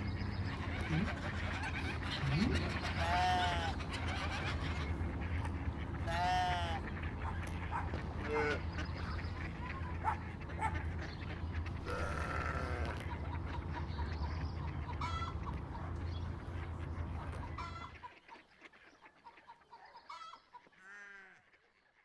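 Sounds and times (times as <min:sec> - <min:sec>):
steady low hum: 0:00.0 - 0:19.1
birds calling: 0:00.0 - 0:22.0.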